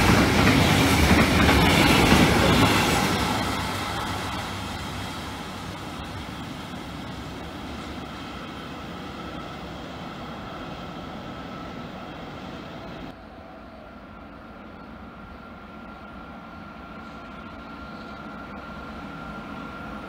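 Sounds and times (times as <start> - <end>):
freight train rumbling: 0.0 - 20.0.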